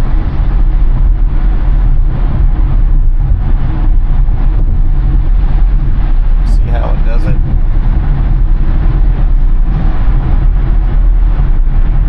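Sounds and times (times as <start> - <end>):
road and tyre noise: 0.0 - 12.0.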